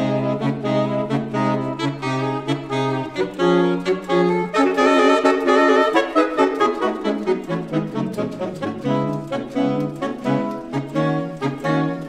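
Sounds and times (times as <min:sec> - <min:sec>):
saxophone quartet playing: 0:00.0 - 0:12.0.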